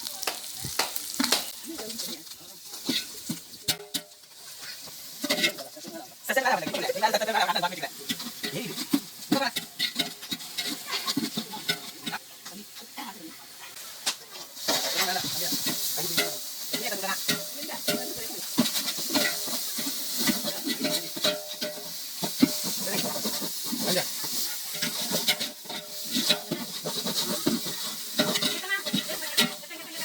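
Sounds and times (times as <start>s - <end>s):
curry sizzling in oil: 0.0s - 30.0s
ladle scraping a pot: 2.7s - 5.8s, 6.6s - 12.2s, 14.3s - 30.0s.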